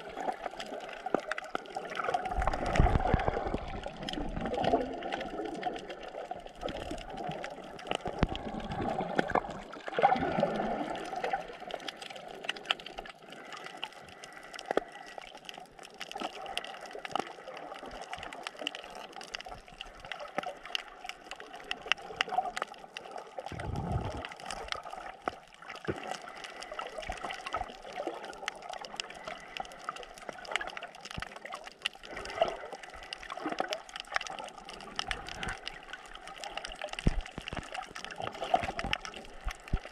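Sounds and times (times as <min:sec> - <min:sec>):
low rumble of water: 0:00.0 - 0:39.9
muffled wash of moving water: 0:00.0 - 0:39.9
small clicks and crackles: 0:00.0 - 0:39.9.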